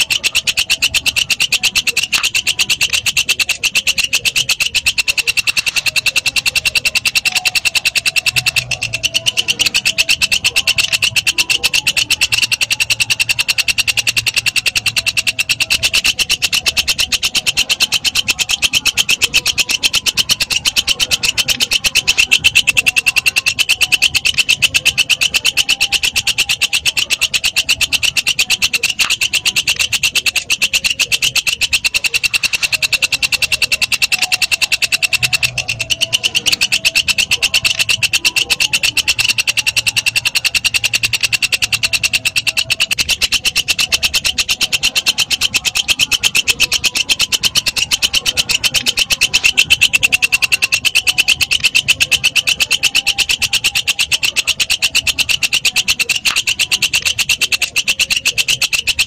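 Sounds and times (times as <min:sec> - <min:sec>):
katydid ticking chirps: 0:00.0 - 0:59.0.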